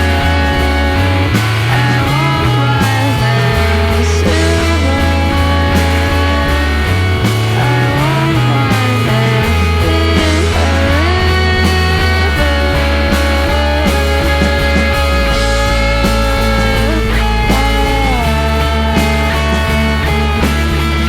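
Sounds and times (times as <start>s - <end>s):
drum hits: 0.0s - 21.0s
heavy bass line: 0.0s - 21.0s.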